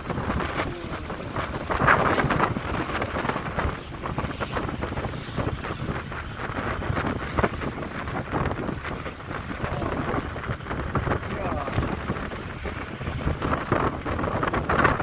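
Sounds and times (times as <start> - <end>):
rushing sea water: 0.0 - 15.0
wind buffeting microphone: 0.0 - 15.0.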